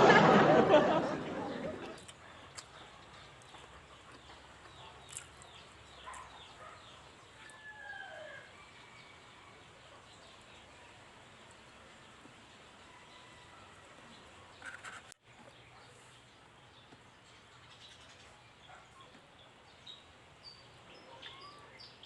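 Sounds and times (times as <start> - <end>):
faint birds chirping: 0.5 - 22.0.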